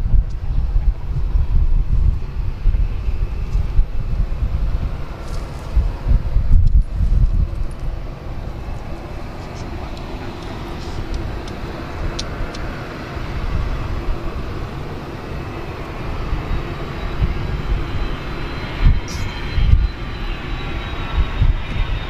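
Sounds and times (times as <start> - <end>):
high jet whine: 0.0 - 22.0
jet engine rumble and hiss: 0.0 - 22.0.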